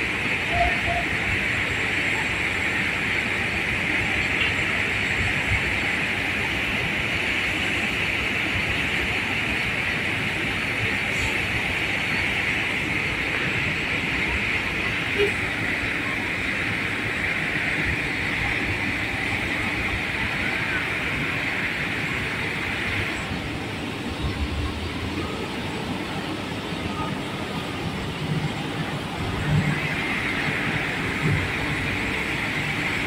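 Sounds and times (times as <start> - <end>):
vehicle running noise: 0.0 - 33.0.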